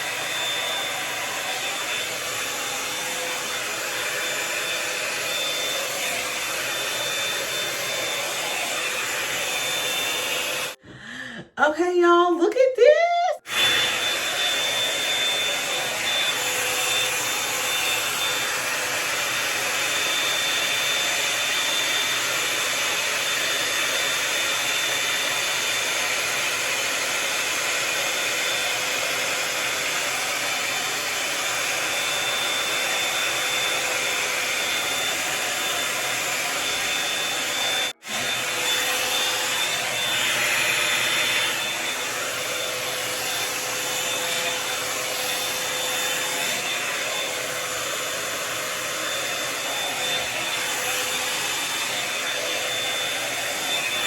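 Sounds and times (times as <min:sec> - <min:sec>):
hot-air dryer brush running: 0:00.0 - 0:10.8, 0:13.2 - 0:54.0.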